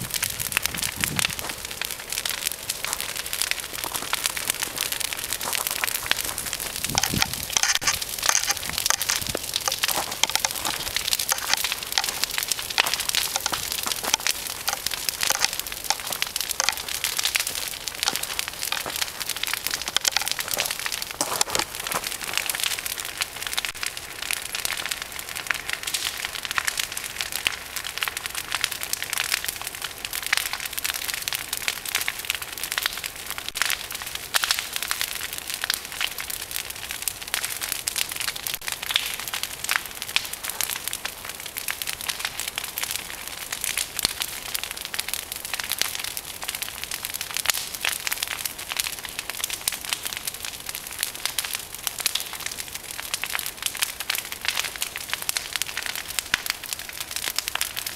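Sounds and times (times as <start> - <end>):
fire crackling and popping: 0.0 - 57.9.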